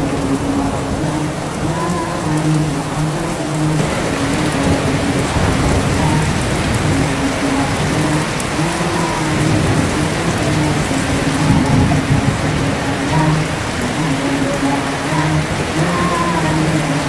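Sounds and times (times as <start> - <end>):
heavy rain: 0.0 - 17.0
man chanting in held notes: 0.0 - 17.0.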